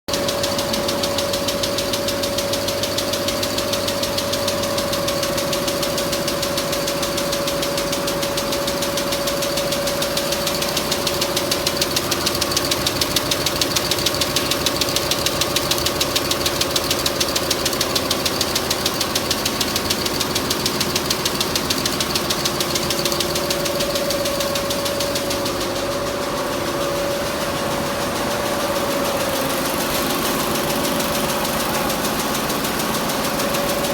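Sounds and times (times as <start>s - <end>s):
quilting machine needles clattering: 0.1s - 33.9s
steady motor hum: 0.1s - 33.9s.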